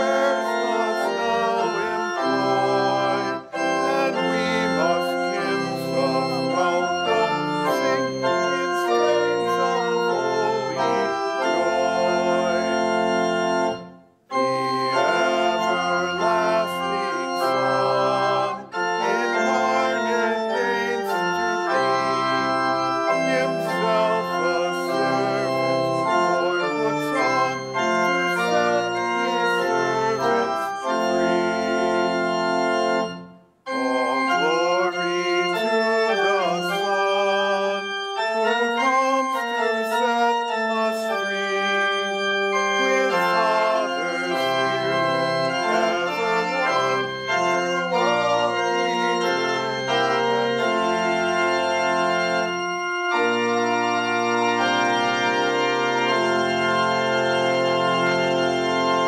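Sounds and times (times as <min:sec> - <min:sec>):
church organ playing a hymn: 0:00.0 - 0:59.0.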